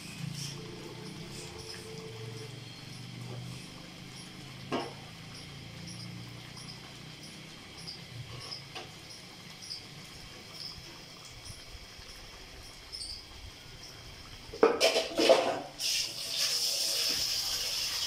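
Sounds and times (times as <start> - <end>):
sizzling in a pan: 0.0 - 18.0.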